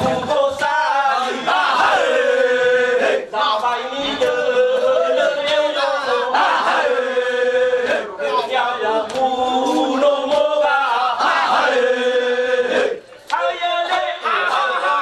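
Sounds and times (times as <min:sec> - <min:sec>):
men chanting together: 0:00.0 - 0:15.0.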